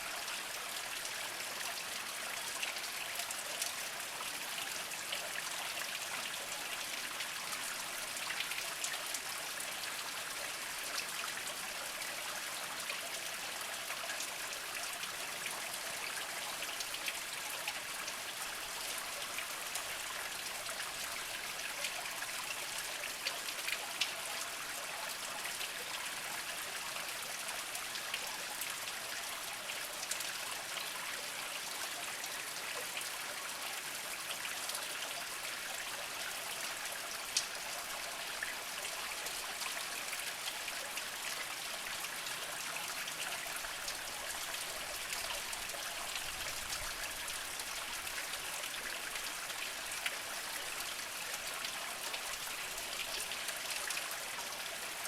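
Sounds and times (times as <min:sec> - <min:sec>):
spring water trickling over rocks: 0:00.0 - 0:55.0.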